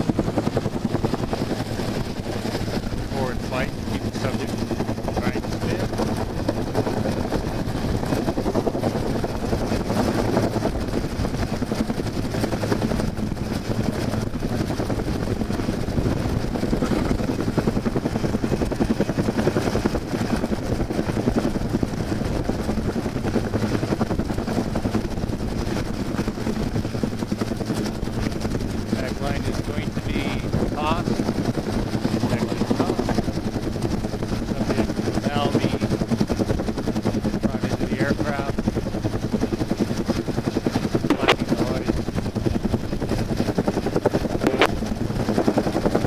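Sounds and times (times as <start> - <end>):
helicopter engine hum: 0.0 - 46.0
helicopter rotor beating: 0.0 - 46.0.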